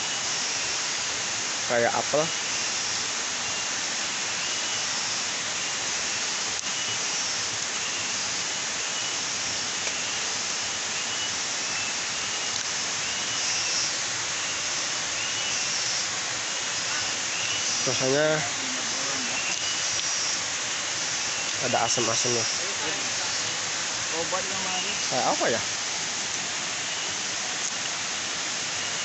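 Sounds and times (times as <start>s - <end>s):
steady high-pitched hiss: 0.0s - 29.0s.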